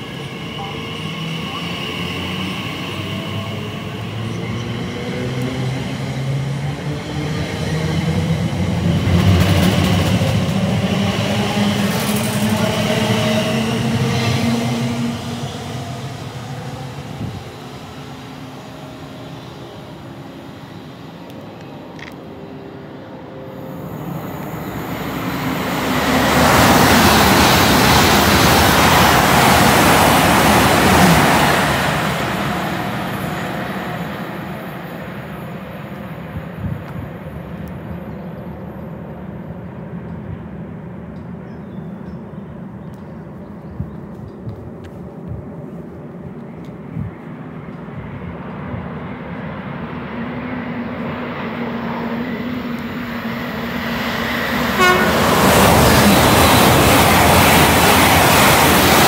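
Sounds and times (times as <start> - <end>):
fast train passing: 0.0 - 59.0.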